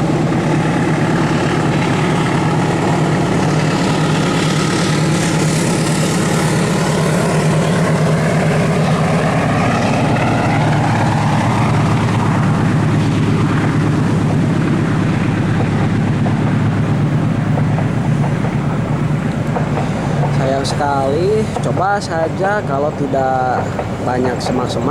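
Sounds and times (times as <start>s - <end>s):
diesel locomotive engine droning: 0.0s - 24.9s.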